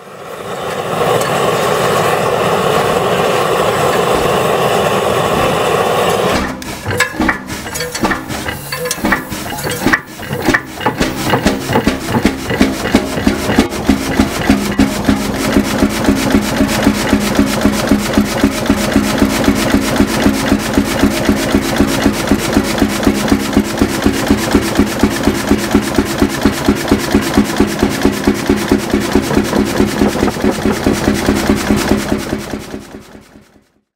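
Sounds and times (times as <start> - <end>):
hot bulb engine running: 0.0 - 33.9.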